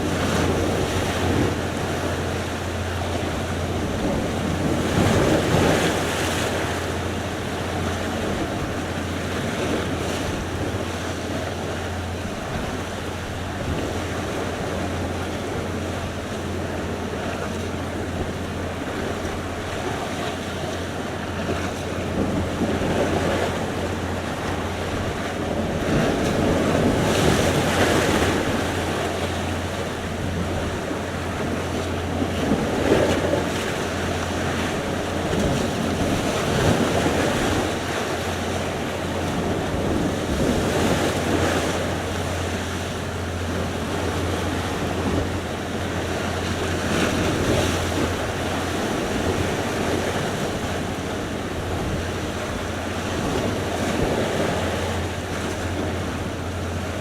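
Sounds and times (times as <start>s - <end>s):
waves breaking: 0.0s - 57.0s
wind rumbling on microphone: 0.0s - 57.0s.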